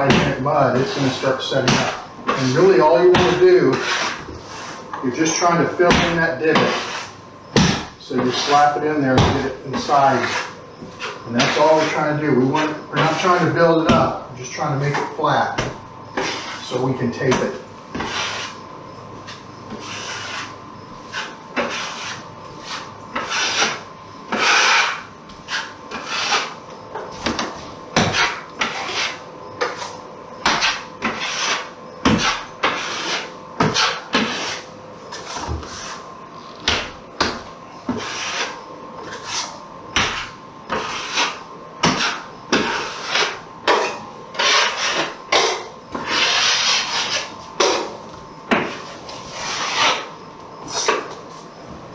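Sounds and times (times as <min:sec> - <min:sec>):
faint steady hum: 0:00.0 - 0:51.9
drywall knife rasping scrapes: 0:00.2 - 0:08.8, 0:09.4 - 0:13.6, 0:16.2 - 0:16.8, 0:17.9 - 0:18.6, 0:19.2 - 0:26.6, 0:27.3 - 0:36.1, 0:37.9 - 0:51.1.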